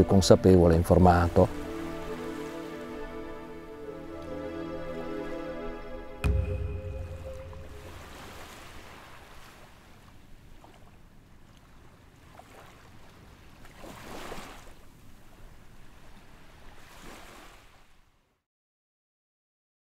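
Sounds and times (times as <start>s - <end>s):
waves washing: 0.0s - 10.9s, 11.7s - 17.8s.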